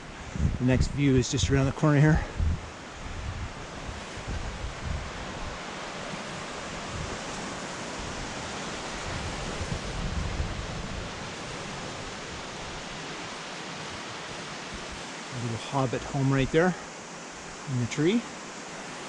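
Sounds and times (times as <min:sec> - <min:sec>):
wind buffeting microphone: 0:00.0 - 0:16.6
ocean surf rushing: 0:00.0 - 0:19.0.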